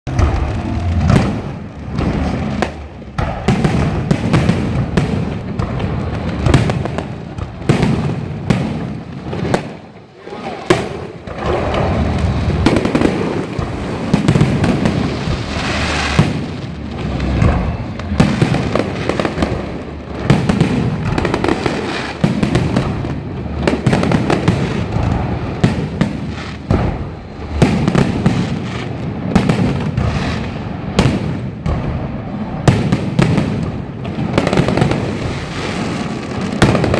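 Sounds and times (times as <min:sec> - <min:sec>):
firecrackers banging and crackling: 0:00.0 - 0:36.9.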